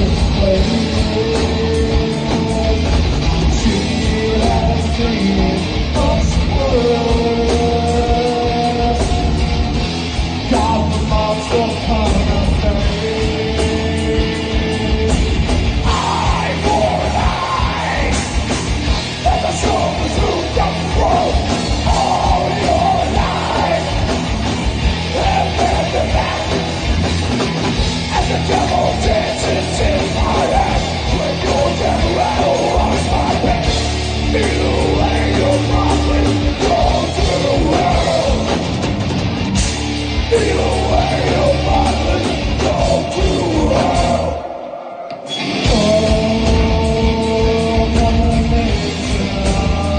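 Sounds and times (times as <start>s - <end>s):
drum kit: 0.0s - 44.4s, 45.1s - 49.9s
electric guitars: 0.0s - 49.9s.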